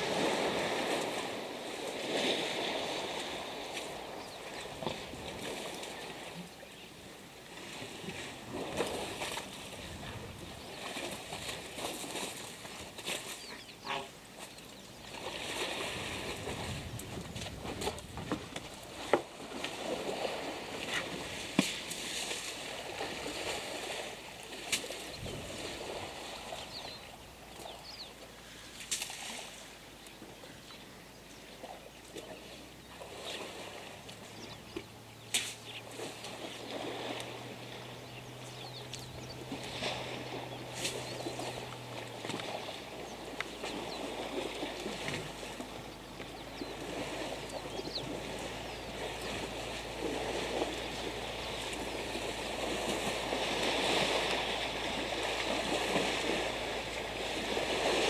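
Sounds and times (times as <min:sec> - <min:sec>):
elephants splashing through water: 0:00.0 - 0:06.8, 0:07.4 - 0:30.0, 0:31.6 - 0:58.0.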